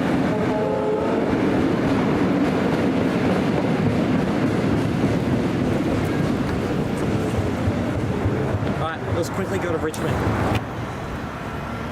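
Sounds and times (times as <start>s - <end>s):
train wheels rumbling on rail: 0.0s - 11.9s.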